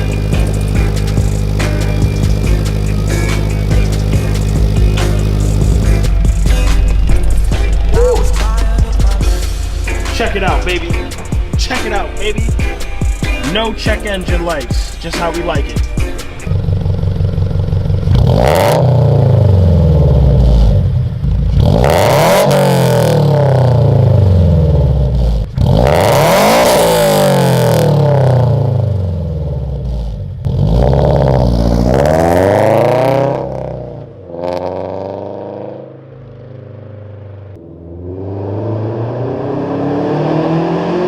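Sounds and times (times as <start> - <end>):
car engine revving and idling: 0.0 - 41.0.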